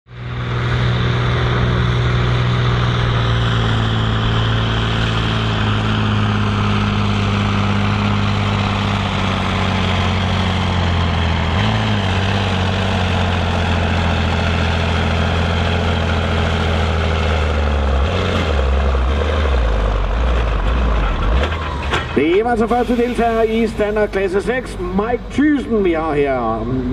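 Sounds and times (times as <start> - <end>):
tractor diesel engine running: 0.1 - 26.9.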